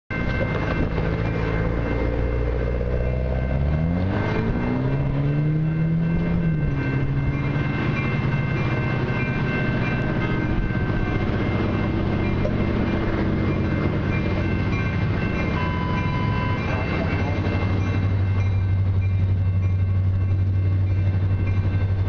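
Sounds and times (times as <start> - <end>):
diesel locomotive engine rumbling: 0.1 - 22.0.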